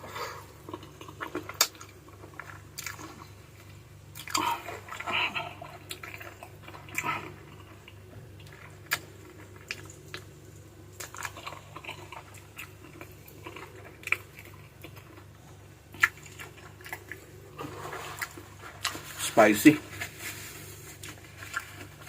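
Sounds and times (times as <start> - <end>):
chewing and biting: 0.6 - 10.3, 11.0 - 19.0.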